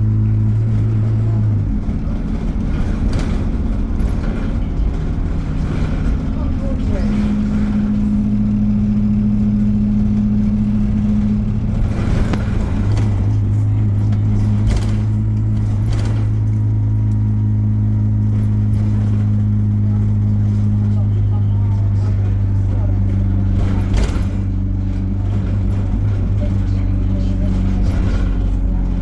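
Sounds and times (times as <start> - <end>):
bus engine drone: 0.0 - 29.0
rattles and clatters: 0.0 - 29.0.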